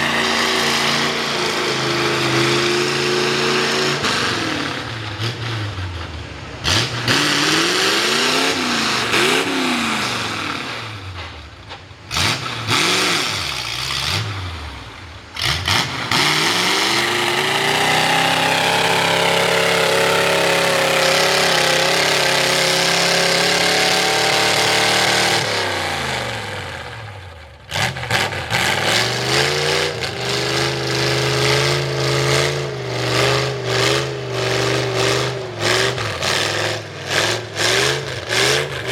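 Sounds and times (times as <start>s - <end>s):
truck engine revving hard: 0.0s - 11.4s, 12.1s - 38.9s.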